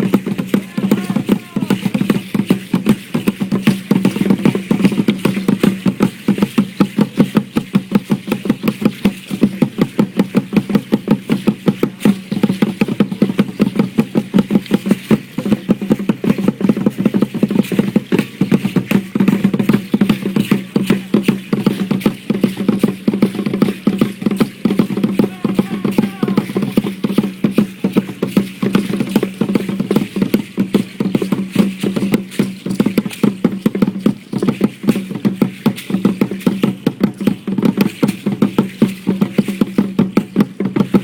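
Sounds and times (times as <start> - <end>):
drums and percussion beating: 0.0 - 41.0.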